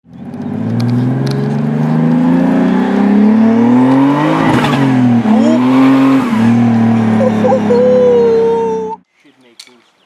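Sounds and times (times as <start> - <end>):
car engine accelerating hard: 0.1 - 9.0.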